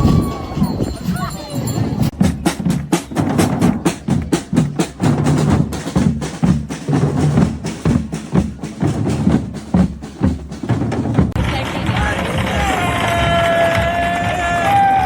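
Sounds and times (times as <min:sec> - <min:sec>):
drums beating fast rhythm: 0:00.0 - 0:15.0.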